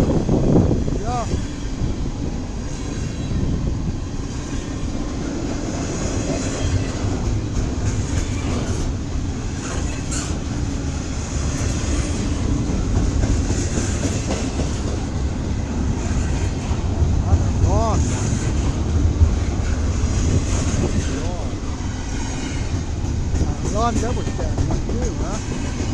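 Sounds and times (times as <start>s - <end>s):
freight train rumbling past: 0.0s - 25.9s.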